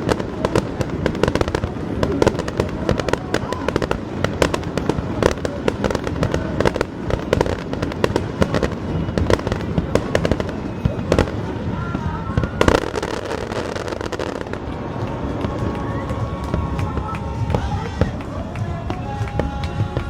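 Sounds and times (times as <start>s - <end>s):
crowd voices: 0.0s - 20.0s
fireworks bangs and crackles: 0.0s - 20.0s.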